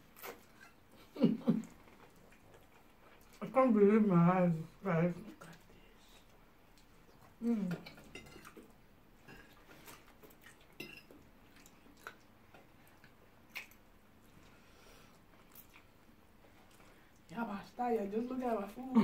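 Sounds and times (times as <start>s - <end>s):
chewing: 0.0s - 3.6s, 5.3s - 17.3s.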